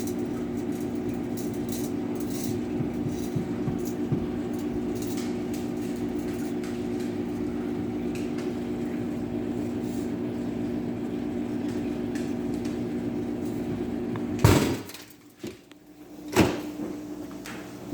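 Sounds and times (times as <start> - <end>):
microwave oven humming: 0.0 - 17.9.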